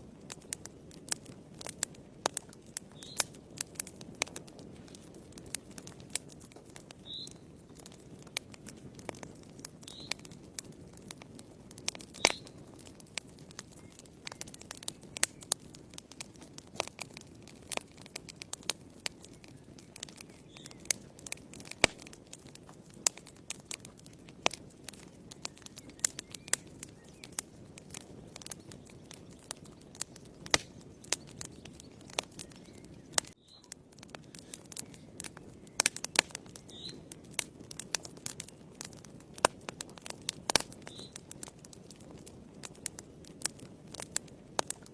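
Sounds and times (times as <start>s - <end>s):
fire crackling and popping: 0.0s - 44.9s
low rush of flame: 0.0s - 44.9s.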